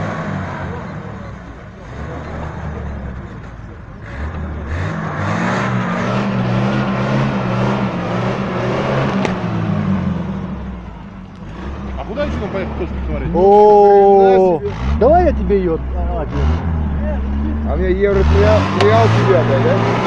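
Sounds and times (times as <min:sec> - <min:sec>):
off-road vehicle engine straining: 0:00.0 - 0:20.0.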